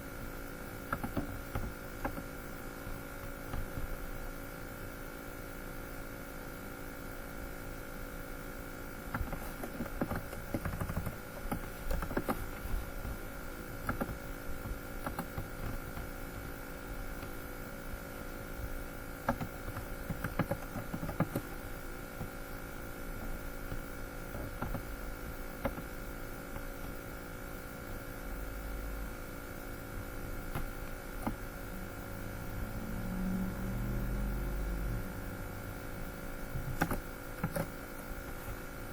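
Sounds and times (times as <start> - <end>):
steady hum of fixed tones: 0.0 - 38.9.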